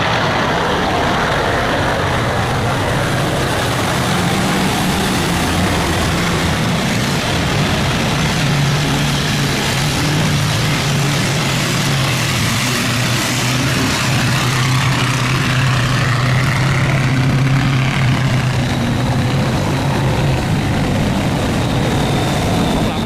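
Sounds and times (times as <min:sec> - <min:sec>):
boat engine humming: 0:00.0 - 0:23.0
water wash: 0:00.0 - 0:23.0.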